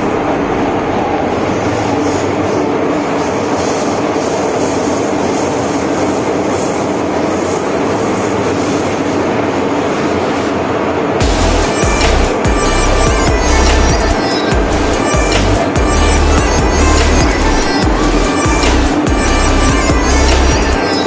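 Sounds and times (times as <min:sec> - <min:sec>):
train running through tunnel: 0:00.0 - 0:21.0.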